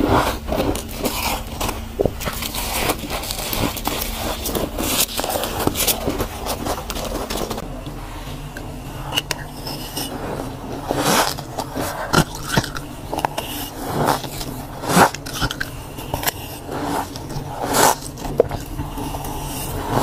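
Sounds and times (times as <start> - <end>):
frost crunching being chewed: 0.0 - 7.6, 9.0 - 19.9.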